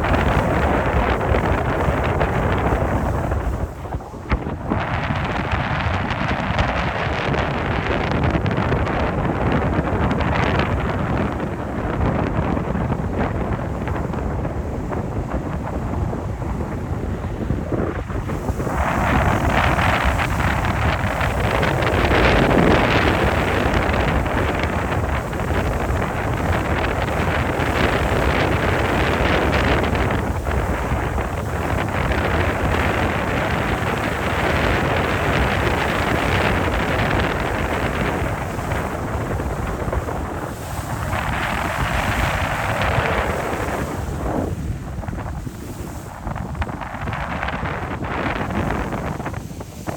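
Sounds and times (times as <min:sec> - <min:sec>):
boat rushing through water: 0:00.0 - 0:49.9
wind buffeting microphone: 0:00.0 - 0:49.9.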